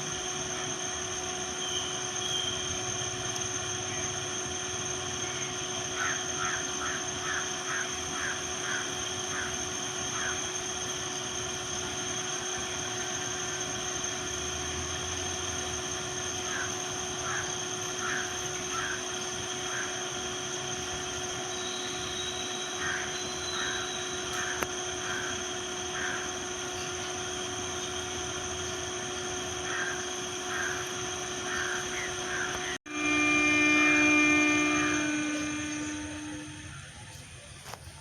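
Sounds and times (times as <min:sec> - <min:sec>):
constant hum: 0:00.0 - 0:38.0
outdoor hiss: 0:00.0 - 0:38.0.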